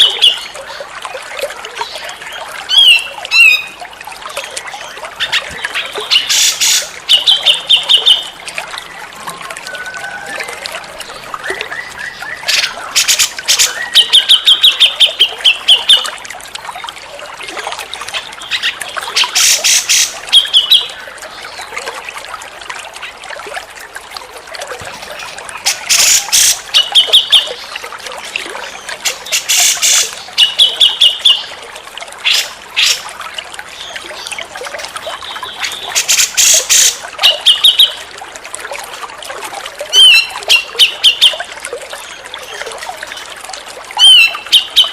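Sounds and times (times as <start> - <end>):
trickle of running water: 0.0 - 44.9.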